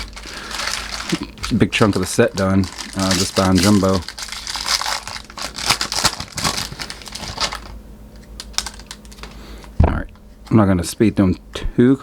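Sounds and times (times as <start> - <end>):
card pack wrapper crinkling: 0.0 - 9.8.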